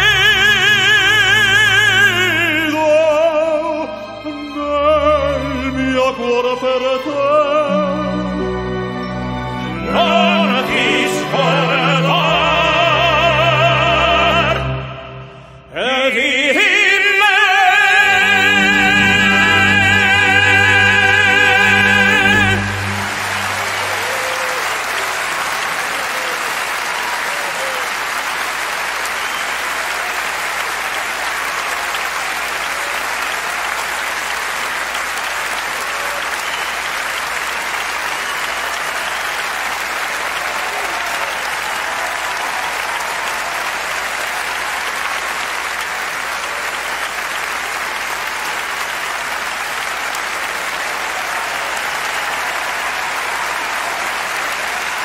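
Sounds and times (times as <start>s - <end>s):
audience applauding: 0.0s - 3.7s, 8.4s - 14.8s, 16.6s - 55.0s.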